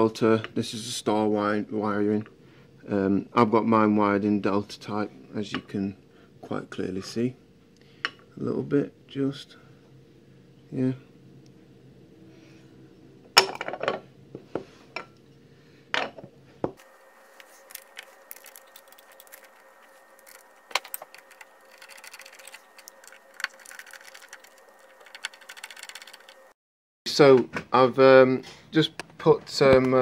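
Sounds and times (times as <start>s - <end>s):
faint steady hum: 0.0s - 28.4s.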